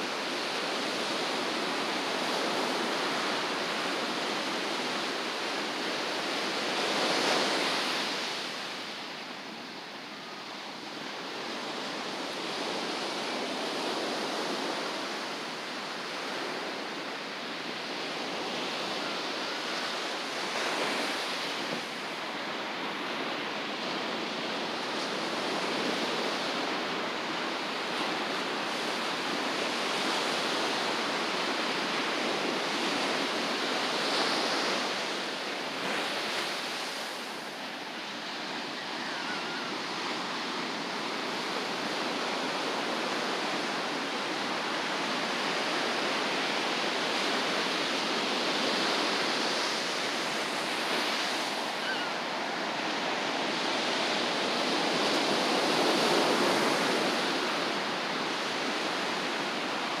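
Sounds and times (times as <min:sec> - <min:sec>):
ocean surf breaking on beach: 0:00.0 - 1:00.0.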